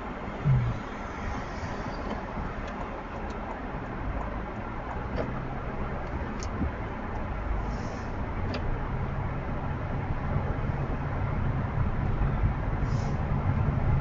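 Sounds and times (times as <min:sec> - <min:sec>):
car driving road noise: 0:00.0 - 0:14.0.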